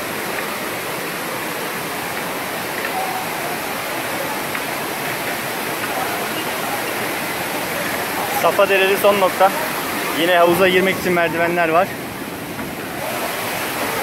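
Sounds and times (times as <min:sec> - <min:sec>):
waterfall rushing into rock pools: 0:00.0 - 0:14.0.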